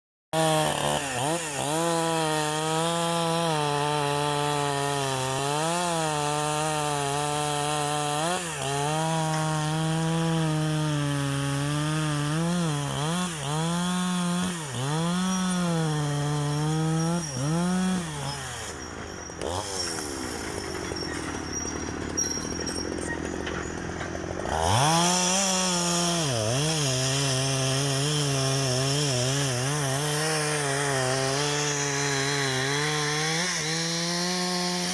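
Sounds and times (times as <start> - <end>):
chainsaw cutting wood: 0.3 - 34.9.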